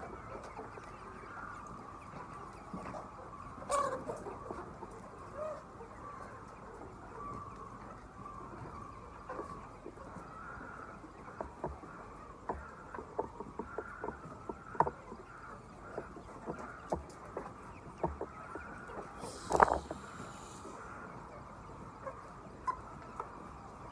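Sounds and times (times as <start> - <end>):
chickens clucking and chirping: 0.0 - 23.9.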